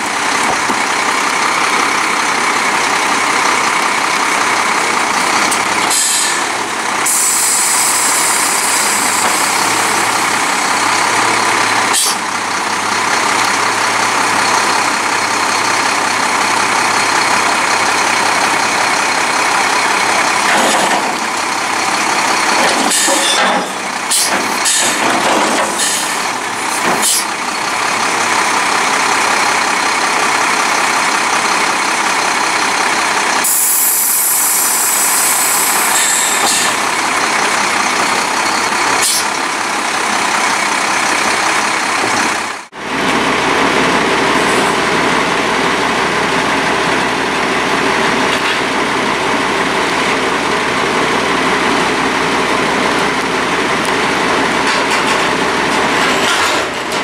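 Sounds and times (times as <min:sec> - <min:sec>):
garbage truck engine and hydraulics: 0:00.0 - 0:57.0.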